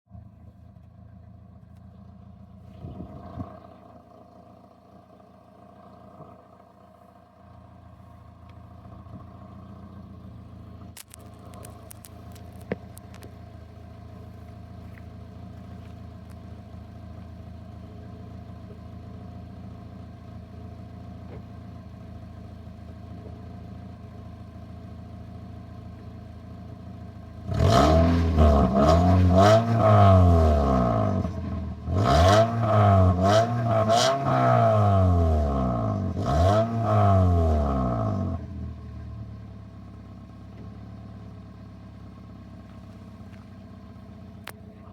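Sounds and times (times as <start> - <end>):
car engine idling and revving: 0.1 - 44.9.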